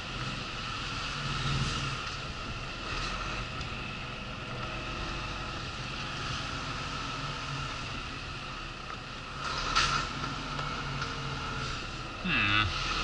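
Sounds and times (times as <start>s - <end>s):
lorry engine and road noise: 0.0s - 13.0s.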